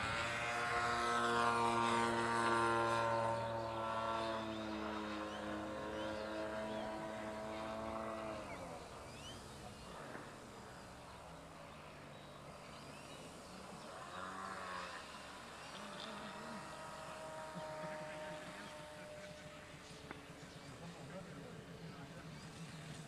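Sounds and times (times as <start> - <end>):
model airplane motor buzzing: 0.0 - 23.0.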